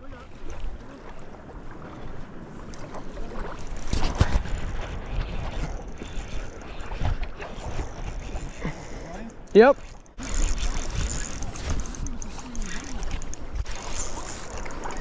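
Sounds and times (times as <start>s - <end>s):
wind buffeting microphone: 0.4s - 9.0s, 9.8s - 15.0s.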